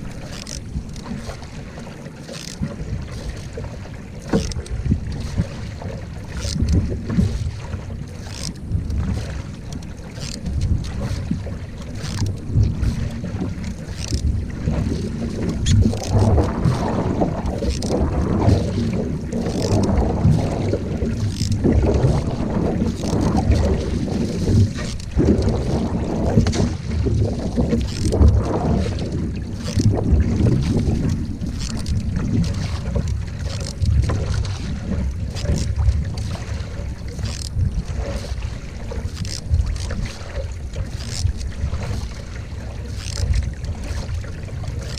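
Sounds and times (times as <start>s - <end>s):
paddle strokes in water: 0.0s - 44.9s
water rushing along hull: 0.0s - 44.9s
wind on microphone: 2.5s - 44.9s.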